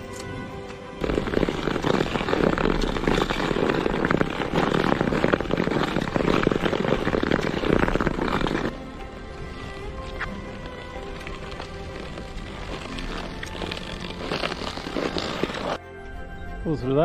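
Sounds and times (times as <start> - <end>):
skate blades scraping ice: 1.0 - 15.8.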